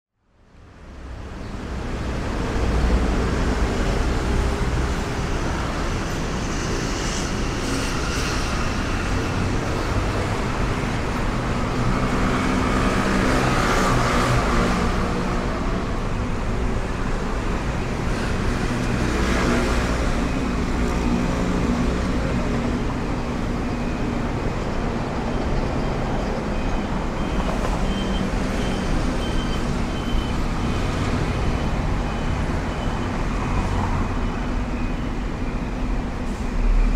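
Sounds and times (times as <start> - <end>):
city traffic rumble: 0.2 - 36.9
vehicles passing close by: 0.5 - 36.9.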